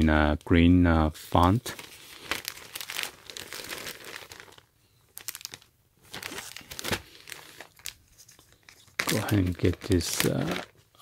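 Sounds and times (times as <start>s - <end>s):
plastic bag crinkling: 1.3s - 11.0s.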